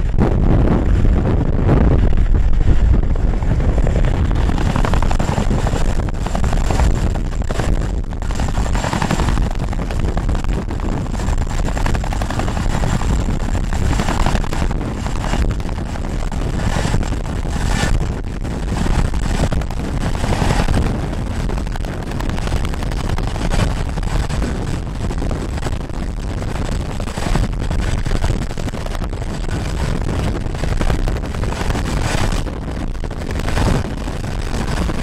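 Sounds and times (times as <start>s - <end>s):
helicopter rotor chop: 0.0s - 35.0s.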